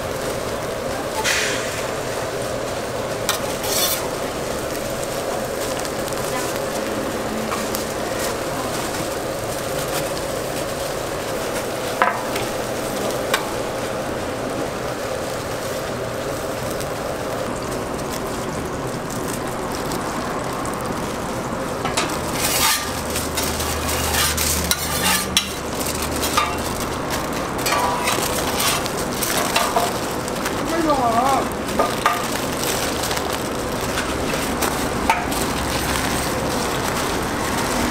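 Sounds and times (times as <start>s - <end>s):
aluminium foil crinkling: 0.0s - 37.9s
food sizzling on griddle: 0.0s - 37.9s.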